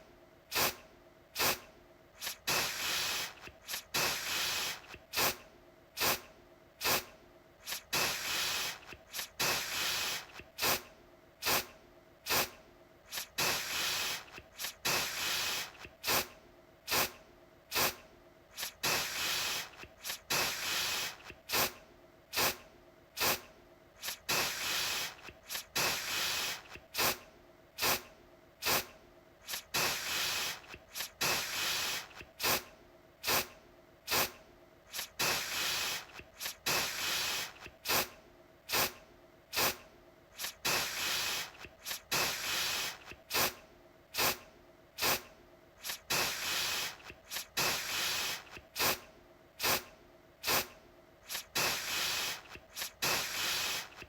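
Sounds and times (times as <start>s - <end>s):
aerosol can spraying: 0.5s - 0.8s, 1.4s - 1.6s, 2.2s - 5.4s, 6.0s - 6.2s, 6.8s - 11.7s, 12.3s - 16.3s, 16.9s - 22.6s, 23.2s - 27.2s, 27.8s - 33.5s, 34.1s - 39.8s, 40.4s - 43.6s, 44.2s - 44.4s, 45.0s - 49.0s, 49.6s - 54.0s.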